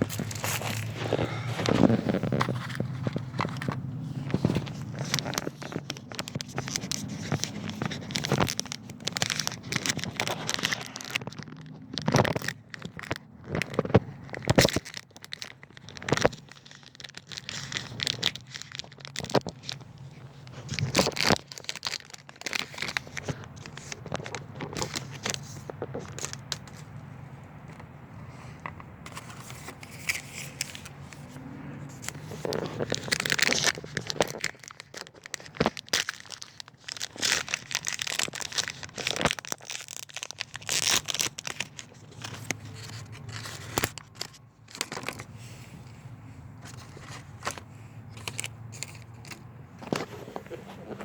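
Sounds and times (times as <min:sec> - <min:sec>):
wrappers crinkling and tearing: 0:00.0 - 0:51.0.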